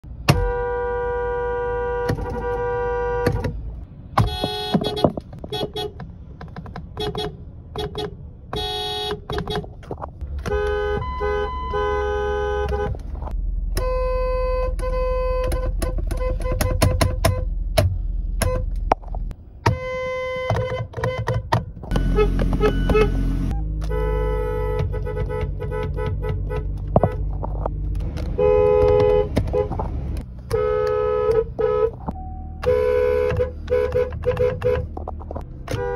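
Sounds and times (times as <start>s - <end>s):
car horns honking: 0.1s - 6.1s, 6.8s - 17.6s, 18.4s - 18.9s, 19.6s - 35.9s.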